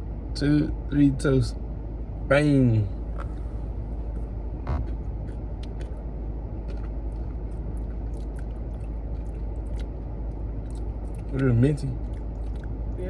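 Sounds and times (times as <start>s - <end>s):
car cabin rumble: 2.4s - 13.0s.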